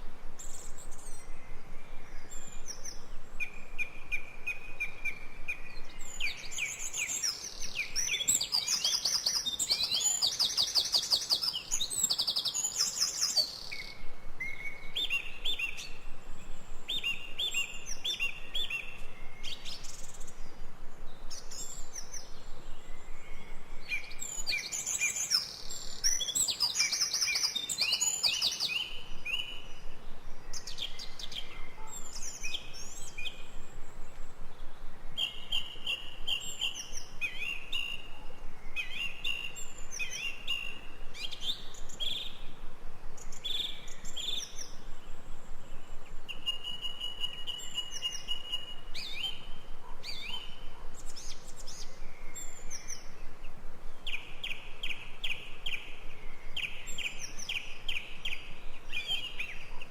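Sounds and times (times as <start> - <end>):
faint steady hiss: 0.0 - 59.9
birds singing and chirping: 0.4 - 42.5, 45.7 - 59.9.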